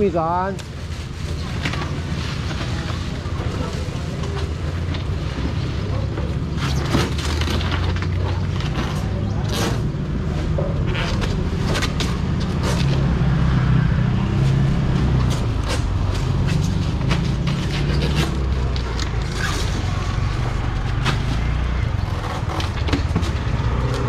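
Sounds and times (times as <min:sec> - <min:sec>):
clicks and knocks handling goods: 0:00.5 - 0:13.1, 0:14.5 - 0:24.0.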